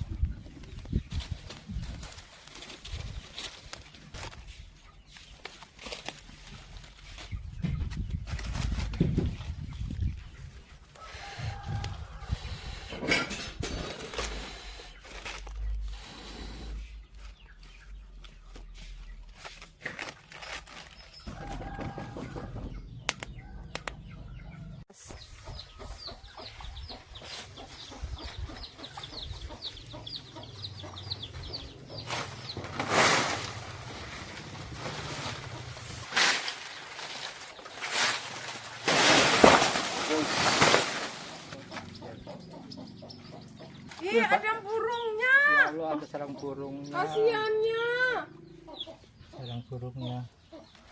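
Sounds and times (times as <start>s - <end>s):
chickens clucking: 6.6s - 19.3s, 21.3s - 50.9s.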